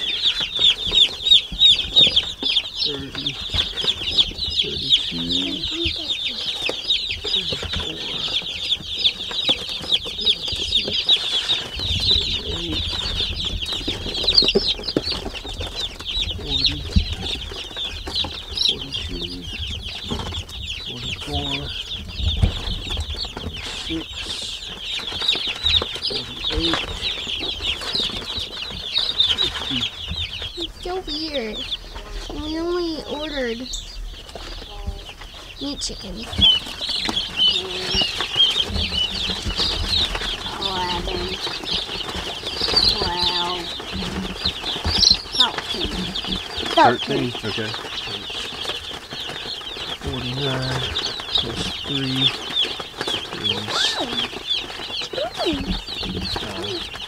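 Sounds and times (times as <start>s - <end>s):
baby chicks peeping: 0.0s - 57.0s.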